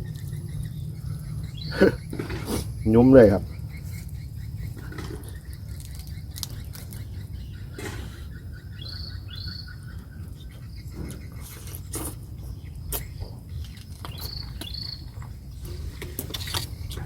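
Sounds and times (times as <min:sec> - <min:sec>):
bird chirping: 0:00.0 - 0:17.0
faint insects: 0:00.0 - 0:17.0
steady low hum: 0:00.0 - 0:17.0.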